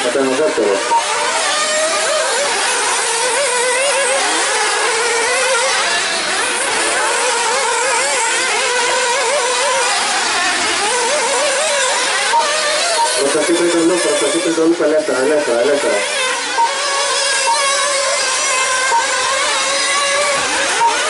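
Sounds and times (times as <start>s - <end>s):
model car engines revving: 0.0s - 21.0s.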